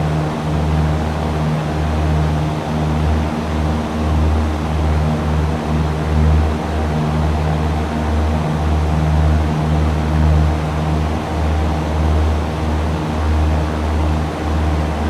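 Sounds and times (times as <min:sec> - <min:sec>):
airplane engine droning in cabin: 0:00.0 - 0:15.0.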